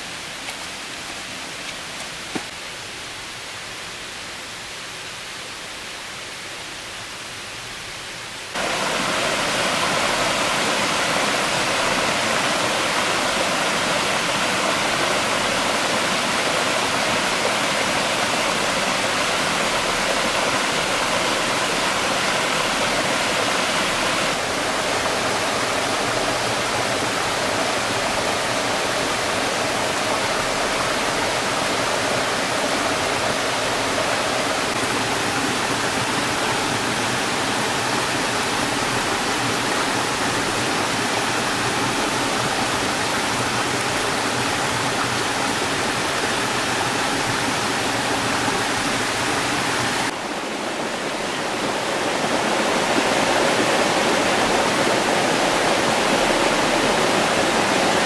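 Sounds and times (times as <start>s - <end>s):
waterfall roaring: 8.5s - 58.0s.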